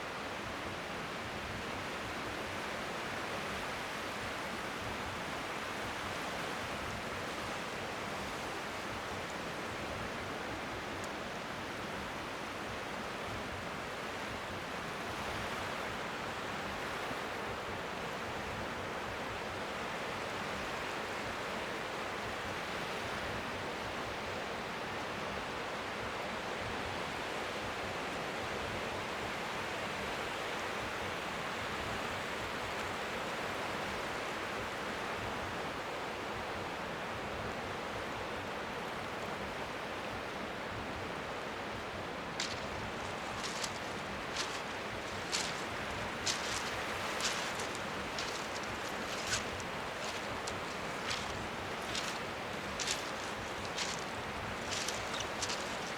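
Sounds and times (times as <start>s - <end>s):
waves lapping faintly: 0.0s - 55.9s.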